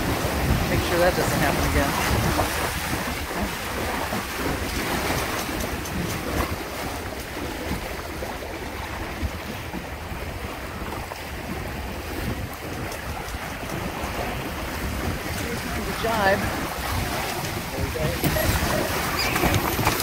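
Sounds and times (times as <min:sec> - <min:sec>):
water splashing along hulls: 0:00.0 - 0:20.0
wind buffeting microphone: 0:00.0 - 0:20.0.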